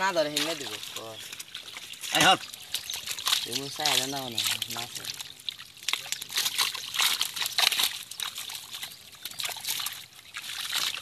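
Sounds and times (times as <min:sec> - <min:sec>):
fish splashing in water: 0:00.0 - 0:11.0.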